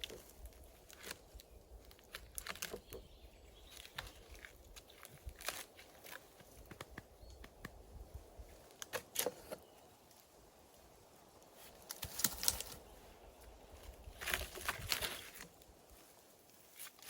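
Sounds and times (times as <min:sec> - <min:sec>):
dry crackling and rustling: 0:00.0 - 0:17.0.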